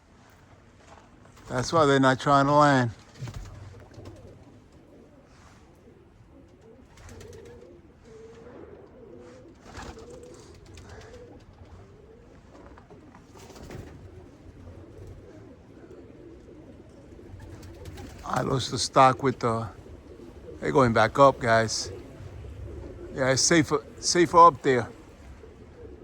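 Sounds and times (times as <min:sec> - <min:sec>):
pigeons cooing: 0:01.3 - 0:26.0.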